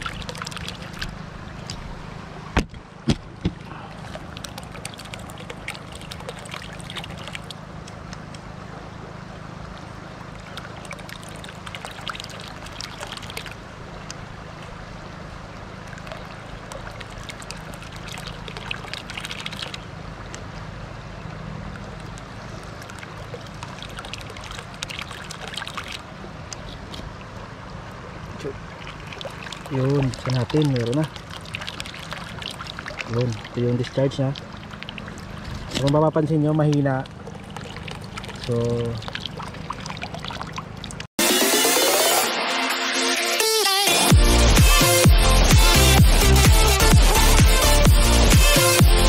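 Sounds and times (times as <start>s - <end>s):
water running and splashing: 0.0s - 2.6s, 3.5s - 20.5s, 21.6s - 42.1s.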